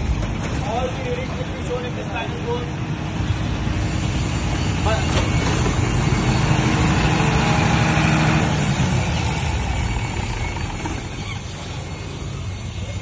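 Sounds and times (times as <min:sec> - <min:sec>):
diesel generator running: 0:00.0 - 0:13.0.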